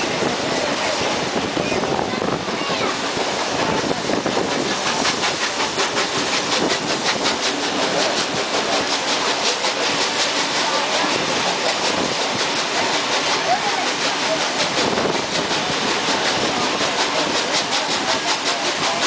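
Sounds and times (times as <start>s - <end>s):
wheel and wind noise: 0.0s - 19.0s.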